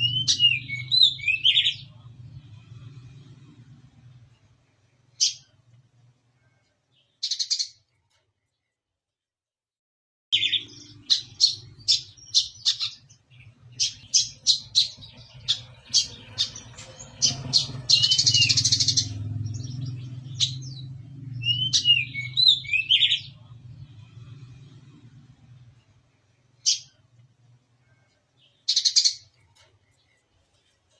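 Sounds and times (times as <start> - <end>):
bird singing high chirps and trills: 0.0 - 2.4, 4.7 - 5.6, 6.4 - 8.6, 10.4 - 30.8.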